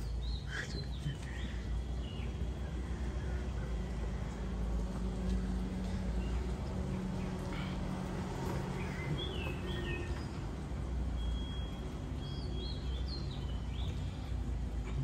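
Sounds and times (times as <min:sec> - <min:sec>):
birds chirping: 0:00.0 - 0:15.0
low outdoor rumble: 0:00.0 - 0:15.0.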